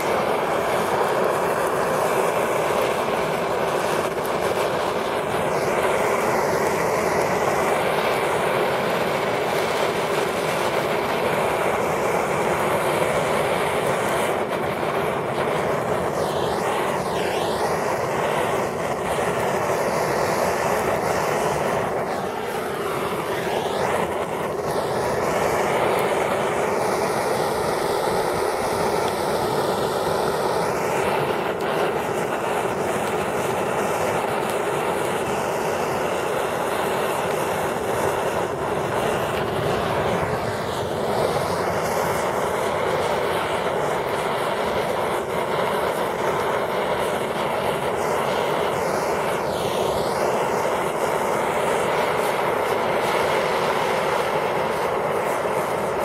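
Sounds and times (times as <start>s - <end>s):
gas torch flame rushing: 0.0s - 56.0s.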